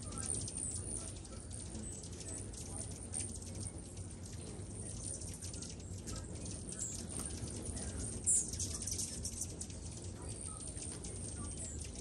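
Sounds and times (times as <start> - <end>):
hummingbirds chirping: 0.0 - 12.0
steady low hum: 0.0 - 12.0.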